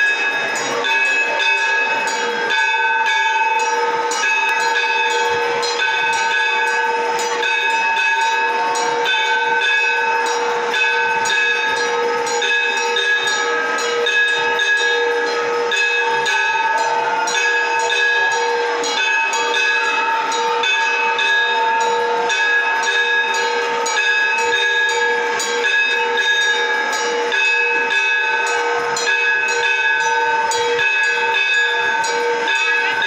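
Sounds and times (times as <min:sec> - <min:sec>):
temple bells ringing: 0:00.0 - 0:33.0.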